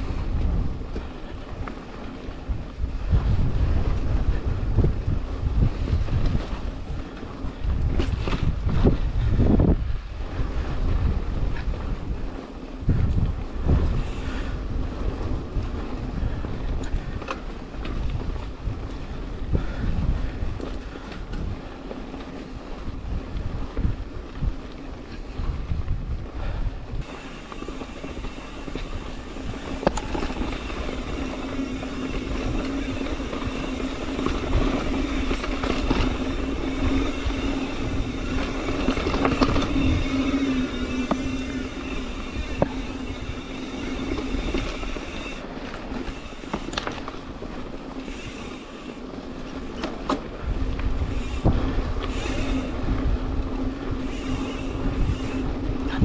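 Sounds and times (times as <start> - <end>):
bike clicks and rattles: 0.0 - 56.0
tyre and wind rumble: 0.0 - 56.0
bicycle freewheel buzzing: 10.2 - 25.6, 26.4 - 56.0.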